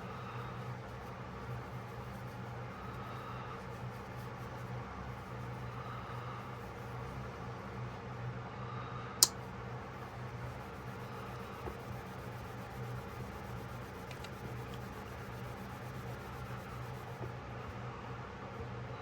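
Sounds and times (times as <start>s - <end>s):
rubbing and handling noise: 0.0s - 7.8s, 9.9s - 17.8s.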